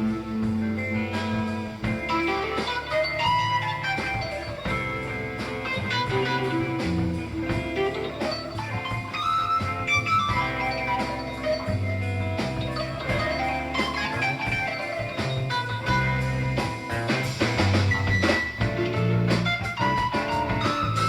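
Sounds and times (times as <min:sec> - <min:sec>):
live band with guitar lead: 0:00.0 - 0:21.0.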